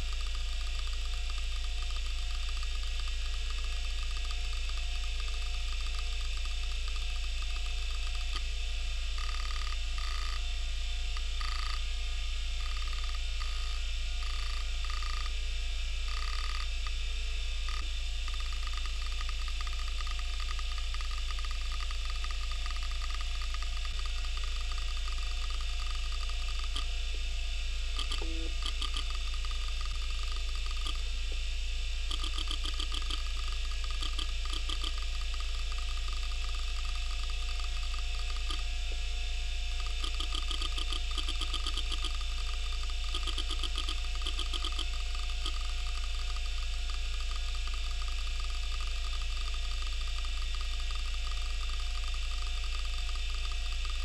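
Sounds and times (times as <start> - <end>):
rapid hard drive head ticking: 0.0 - 15.4, 16.0 - 17.0, 17.6 - 27.3, 27.9 - 38.9, 39.6 - 54.0
hard drive spindle hum and whine: 0.0 - 54.0.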